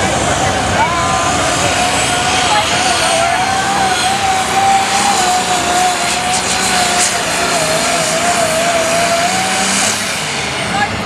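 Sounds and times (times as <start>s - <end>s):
high wavering turbo whine: 0.0s - 11.0s
tractor engine at full power: 0.0s - 11.0s.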